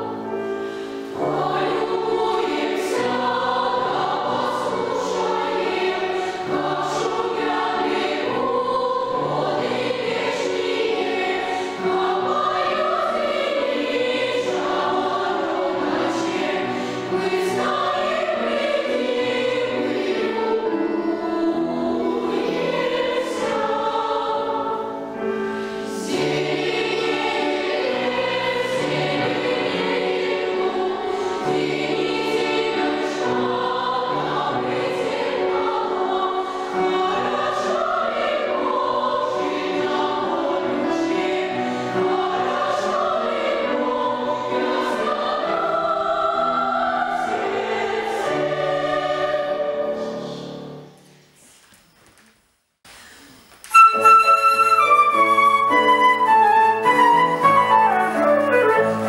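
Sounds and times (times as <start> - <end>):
piano accompaniment: 0.0 - 49.9, 53.7 - 59.0
children's choir singing: 0.0 - 51.0, 53.7 - 59.0.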